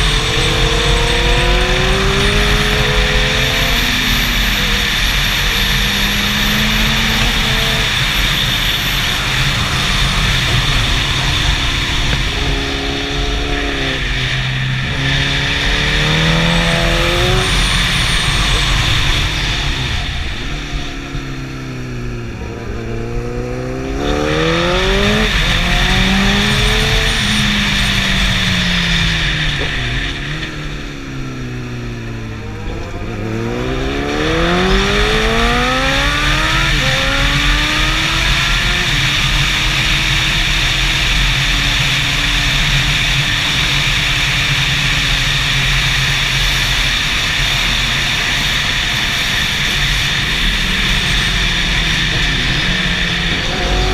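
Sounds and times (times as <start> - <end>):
motorcycle engine accelerating: 0.0 - 53.9
rush of wind: 0.0 - 53.9.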